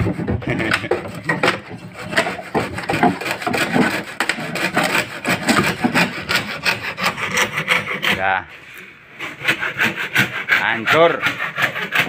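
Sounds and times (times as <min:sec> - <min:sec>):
handsaw cutting wood: 0:00.0 - 0:12.0.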